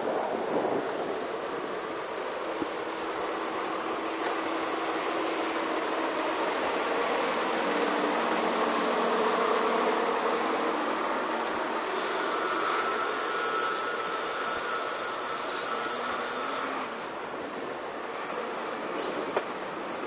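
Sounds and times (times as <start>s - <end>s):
road noise: 0.0s - 20.0s
vehicle engines running: 0.0s - 20.0s.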